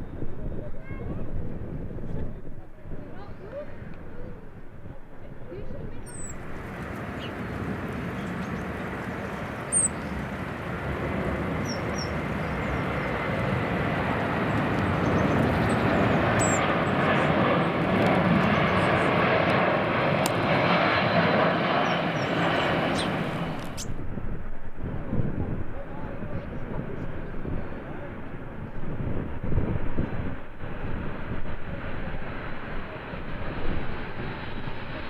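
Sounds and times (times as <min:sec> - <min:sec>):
jet engines roaring: 0:01.6 - 0:35.0.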